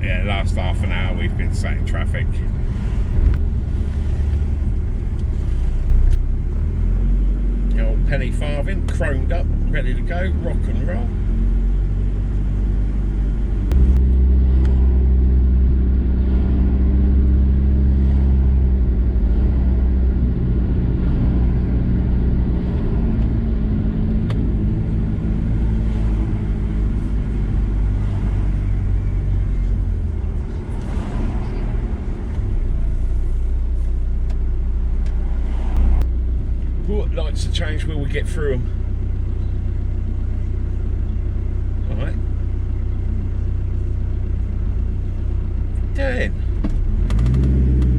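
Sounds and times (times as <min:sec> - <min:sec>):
van engine and road noise: 0:00.0 - 0:47.9.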